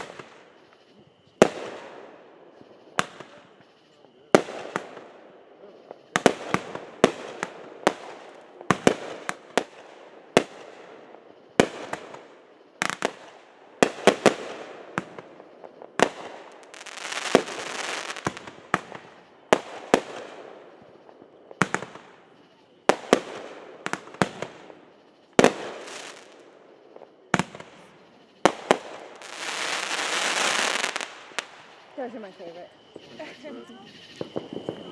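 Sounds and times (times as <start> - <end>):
fireworks banging: 0.0 - 34.9.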